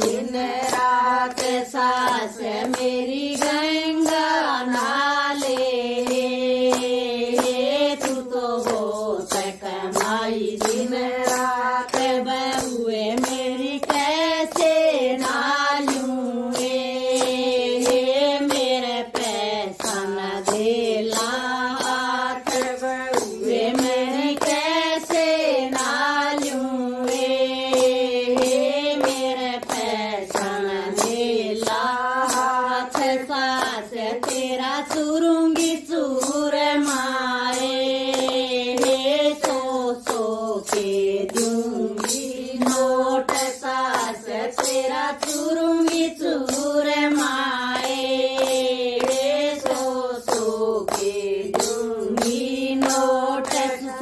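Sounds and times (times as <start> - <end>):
hand claps: 0.0 - 54.0
women singing folk song: 0.0 - 54.0.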